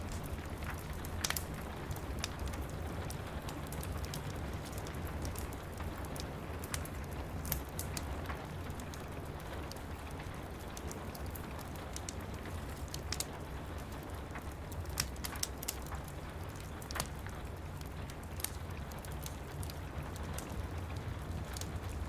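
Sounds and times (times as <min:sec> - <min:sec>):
rain pattering on window glass: 0:00.0 - 0:22.0
wood fire crackling: 0:00.0 - 0:22.0.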